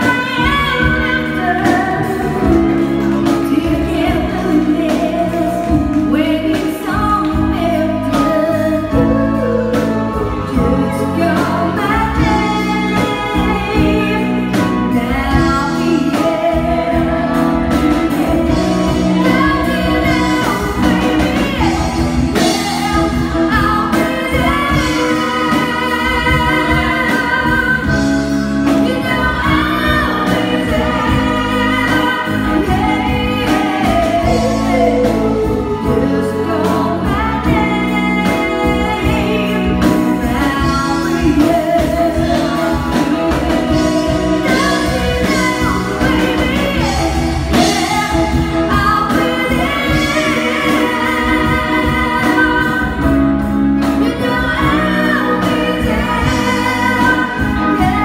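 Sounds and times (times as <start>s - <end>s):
bass guitar: 0.0s - 58.0s
drums: 0.0s - 58.0s
electric guitar: 0.0s - 58.0s
keyboards: 0.0s - 58.0s
women singing together: 0.0s - 58.0s.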